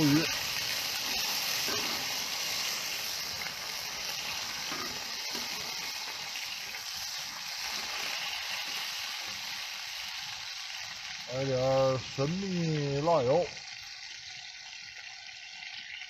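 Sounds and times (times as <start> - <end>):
squid sizzling on hot surface: 0.0 - 16.0.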